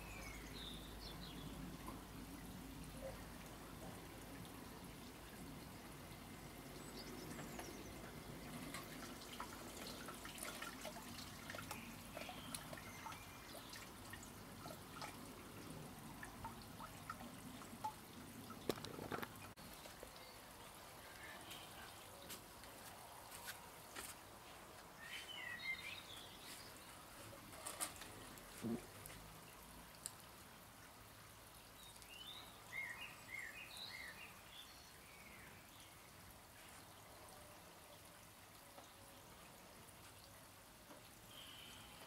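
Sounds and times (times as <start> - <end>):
low steady background: 0.0 - 42.0.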